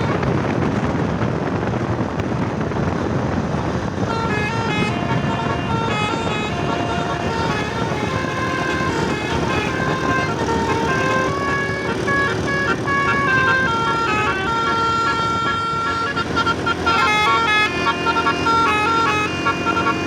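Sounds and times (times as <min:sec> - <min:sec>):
musical bus horn playing a tune: 0:00.0 - 0:00.4, 0:03.9 - 0:20.0
engine and road noise: 0:00.0 - 0:20.0.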